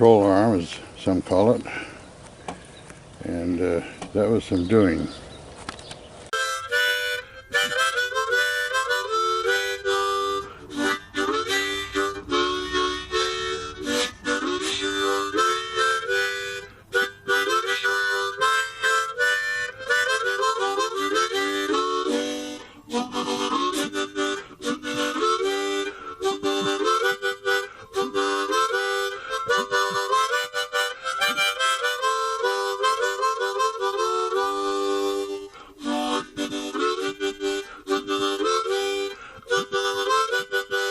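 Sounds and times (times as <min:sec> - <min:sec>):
harmonica melody: 0:00.0 - 0:02.0, 0:06.3 - 0:40.9
guitar: 0:05.6 - 0:40.9.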